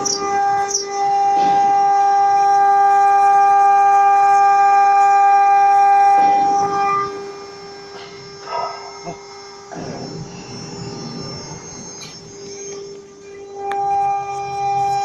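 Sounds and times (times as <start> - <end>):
router spindle high-pitched whine: 0.0 - 15.0.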